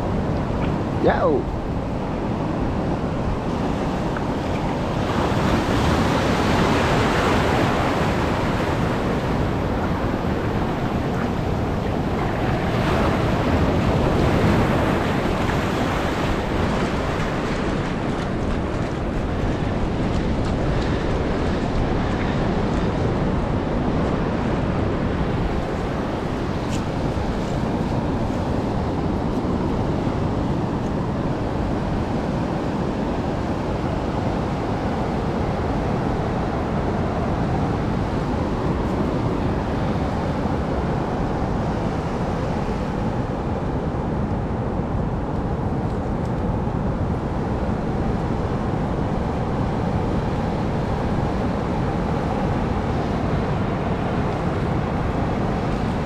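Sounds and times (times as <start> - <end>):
heavy surf breaking on shore: 0.0 - 56.0.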